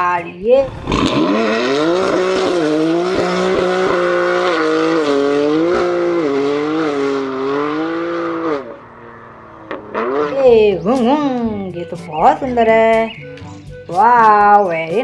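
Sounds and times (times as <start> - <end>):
car engine lightly revving: 0.5 - 15.0.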